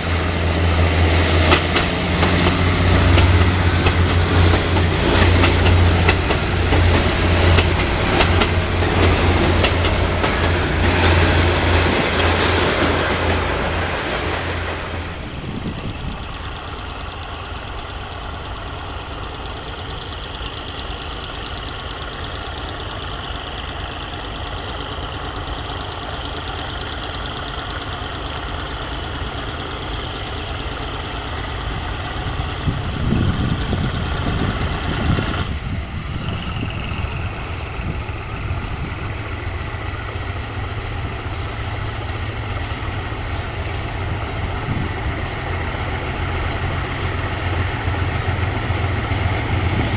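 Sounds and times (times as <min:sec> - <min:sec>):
heavy diesel engine idling: 0:00.0 - 0:49.9.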